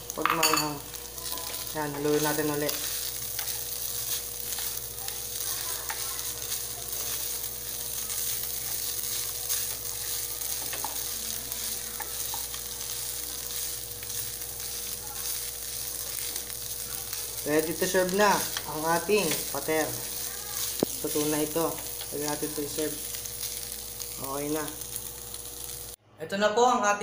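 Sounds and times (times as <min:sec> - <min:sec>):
chicken sizzling in a pan: 0:00.0 - 0:26.0
spatula scraping a pan: 0:01.2 - 0:22.8.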